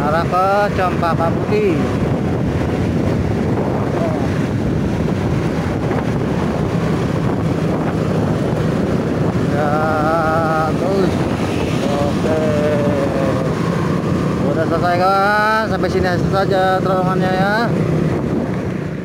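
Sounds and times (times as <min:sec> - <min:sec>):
road noise: 0:00.0 - 0:19.0
wind on microphone: 0:00.0 - 0:19.0.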